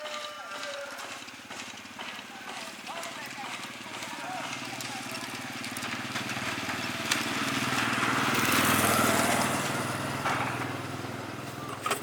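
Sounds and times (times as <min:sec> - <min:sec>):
engine running with rapid pulse: 0:00.6 - 0:12.0.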